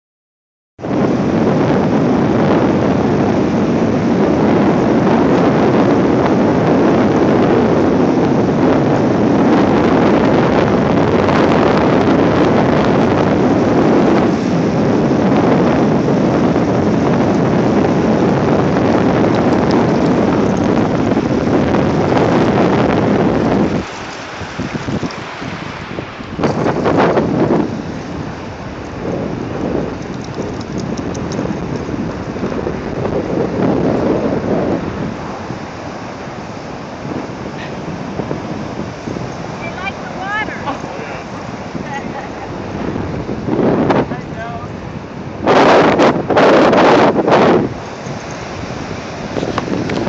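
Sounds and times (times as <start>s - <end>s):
ocean surf: 0.8s - 50.0s
wind buffeting microphone: 0.8s - 50.0s.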